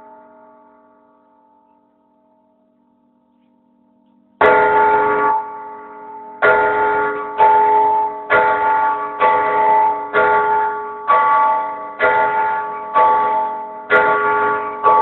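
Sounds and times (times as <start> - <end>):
large church bell ringing: 0.0 - 15.0.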